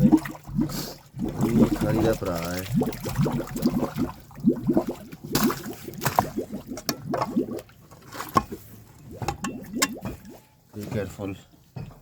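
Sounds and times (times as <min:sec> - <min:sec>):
water gurgling in a drain: 0:00.0 - 0:10.5
water splashes: 0:00.0 - 0:11.3.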